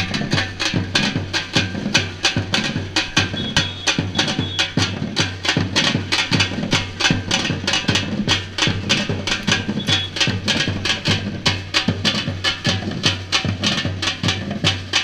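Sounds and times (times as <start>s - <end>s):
drum ensemble playing: 0.0s - 15.0s.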